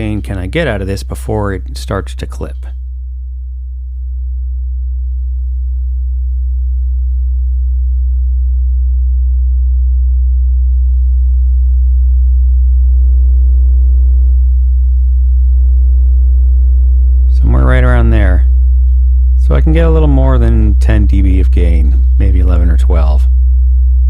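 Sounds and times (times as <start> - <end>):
clipping distorted tone: 0.0 - 24.0
low sine-wave test tone: 0.0 - 24.0.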